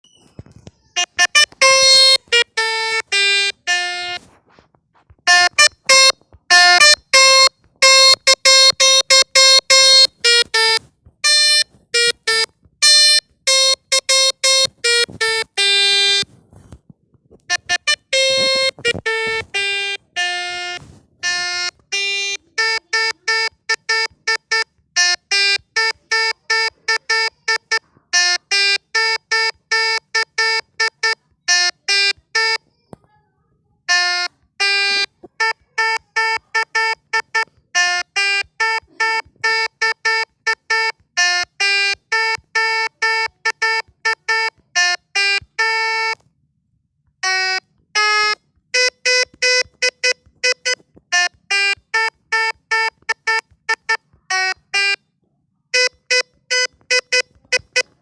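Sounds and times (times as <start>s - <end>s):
electronic bus horn playing a tune: 1.0s - 4.6s, 5.3s - 16.6s, 17.5s - 32.6s, 33.9s - 46.2s, 47.2s - 55.0s, 55.7s - 58.0s.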